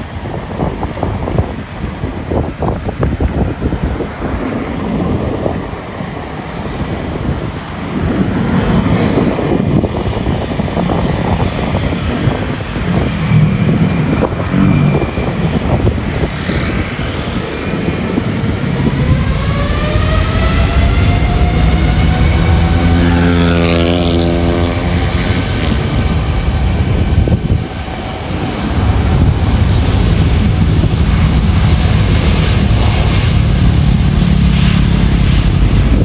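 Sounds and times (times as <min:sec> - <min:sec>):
jet engines rumbling: 0:00.0 - 0:36.0
wind buffeting microphone: 0:00.0 - 0:36.0.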